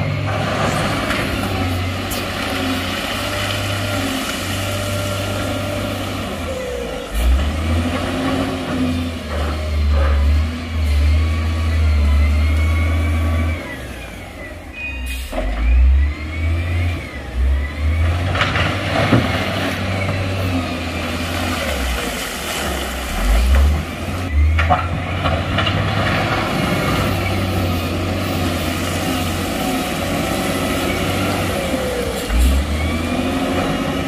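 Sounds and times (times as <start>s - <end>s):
diesel engine revving: 0.0s - 34.0s.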